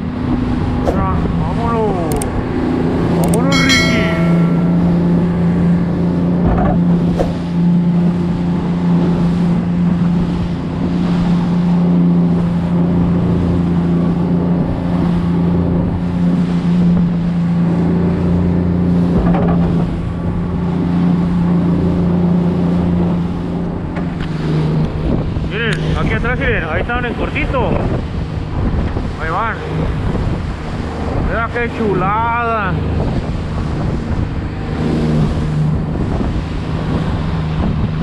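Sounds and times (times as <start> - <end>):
boat engine drone: 0.0 - 38.0
wind and water hiss: 5.7 - 38.0.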